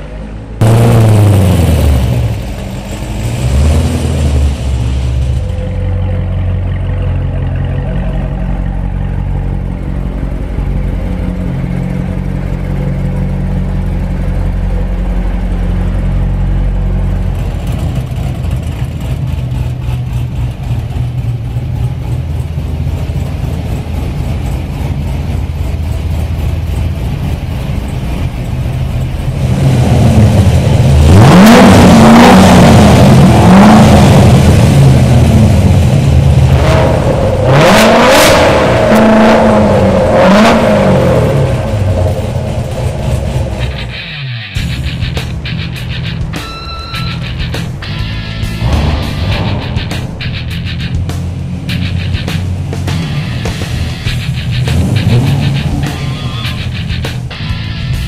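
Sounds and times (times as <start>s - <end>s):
car engine revving and idling: 0.0s - 58.0s.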